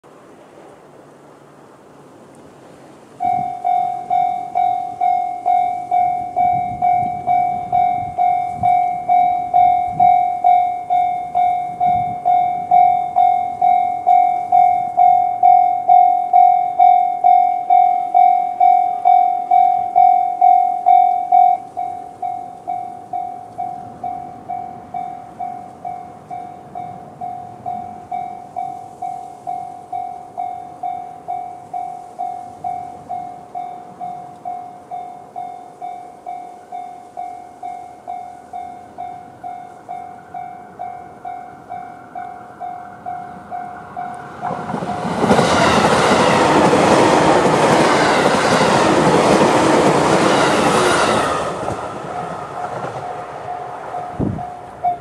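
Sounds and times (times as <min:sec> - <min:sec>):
level crossing warning bell: 0:03.2 - 0:51.4, 0:52.6 - 0:55.0.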